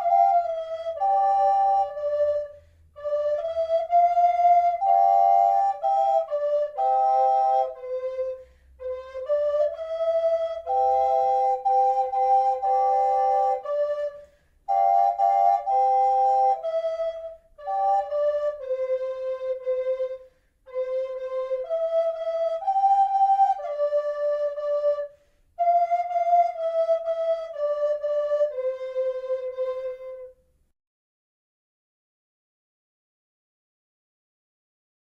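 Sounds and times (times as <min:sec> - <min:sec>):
flutes playing slow melody: 0:00.0 - 0:30.5.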